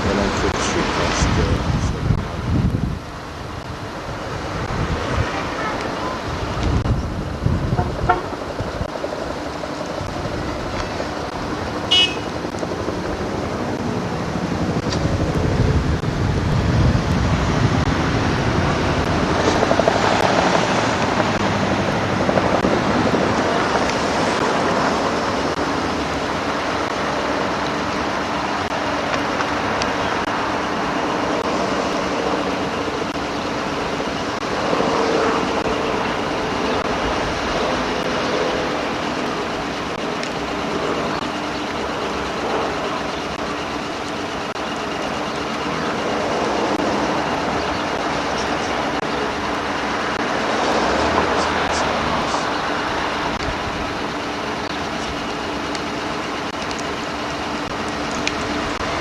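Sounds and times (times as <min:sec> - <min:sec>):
vehicle rumble and hiss: 0:00.0 - 0:59.0.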